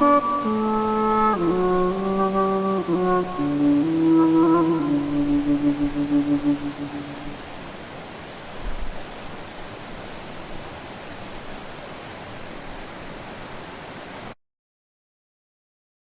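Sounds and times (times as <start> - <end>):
flowing water rushing: 0.0 - 14.4.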